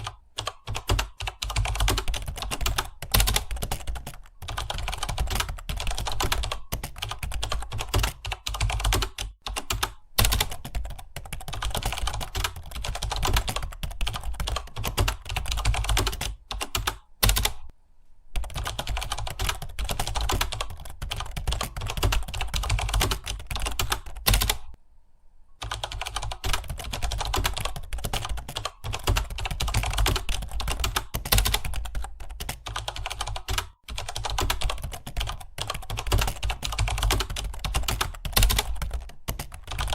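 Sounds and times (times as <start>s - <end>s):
keyboard typing: 0.0s - 17.7s, 18.4s - 24.8s, 25.6s - 39.9s.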